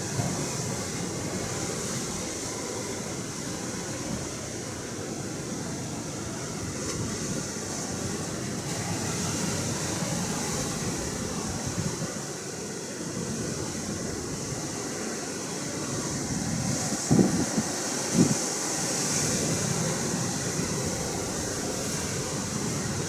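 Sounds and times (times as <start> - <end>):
surf rushing: 0.0 - 23.0
wind: 0.0 - 23.0.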